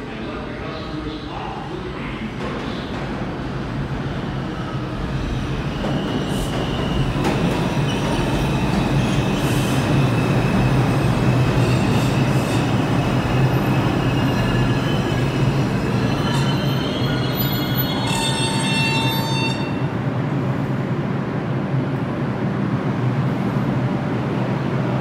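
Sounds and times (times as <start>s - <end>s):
train wheels rumbling on rail: 1.4s - 25.0s.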